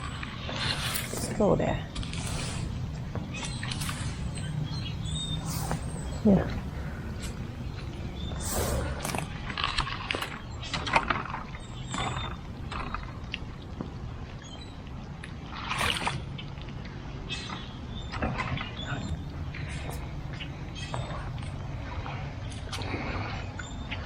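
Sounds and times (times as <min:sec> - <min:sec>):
steady low rumble: 0:00.0 - 0:15.0, 0:19.0 - 0:23.5.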